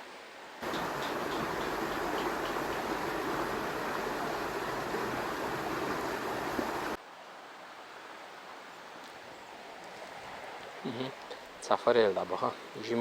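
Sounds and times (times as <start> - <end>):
quiet steady hiss: 0.0 - 13.0
river water rushing: 0.6 - 11.7.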